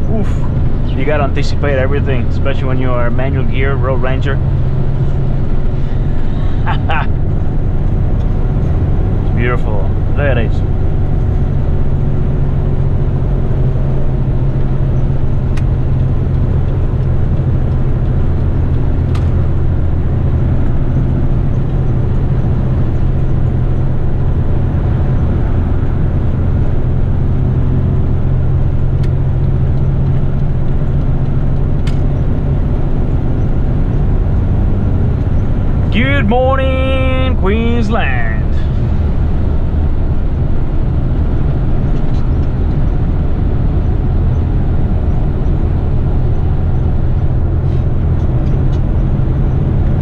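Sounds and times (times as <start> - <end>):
truck engine and road noise: 0.0 - 50.0.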